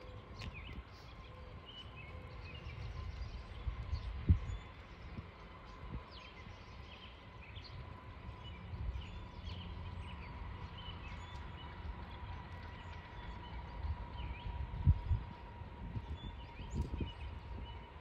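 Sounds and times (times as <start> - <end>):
low uneven rumble: 0.0 - 18.0.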